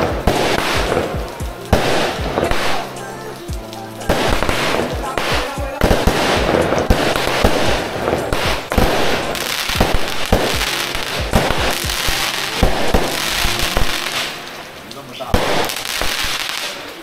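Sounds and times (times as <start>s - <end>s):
fireworks bangs and pops: 0.0s - 17.0s
fireworks crackling: 0.0s - 17.0s.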